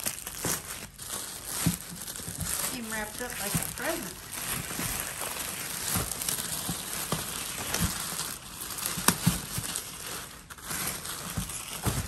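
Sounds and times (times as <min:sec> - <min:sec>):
plastic bag and paper crinkling: 0:00.0 - 0:12.0
sharp crackles: 0:00.0 - 0:12.0.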